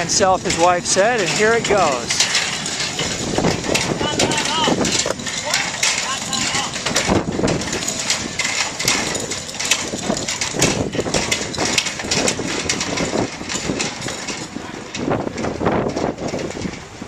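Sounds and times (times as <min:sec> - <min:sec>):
crackles and knocks: 0:00.0 - 0:17.0
gusty wind on microphone: 0:00.0 - 0:17.0.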